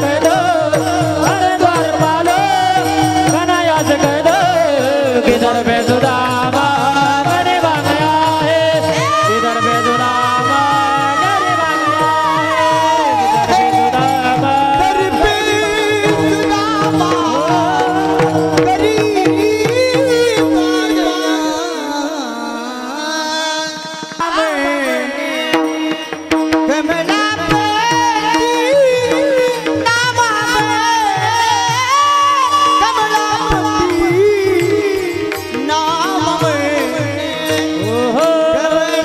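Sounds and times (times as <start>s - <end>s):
drum keeping time: 0.0s - 22.4s, 23.4s - 39.0s
men singing in chorus: 0.0s - 39.0s.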